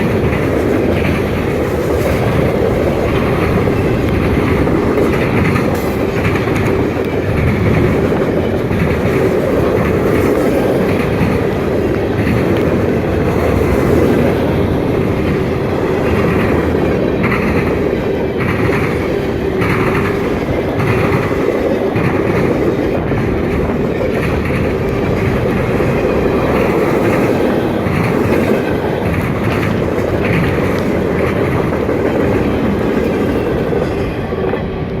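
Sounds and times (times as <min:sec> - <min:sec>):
train wheels rumbling on rails: 0:00.0 - 0:35.0
wheels clacking over rail joints: 0:00.0 - 0:35.0.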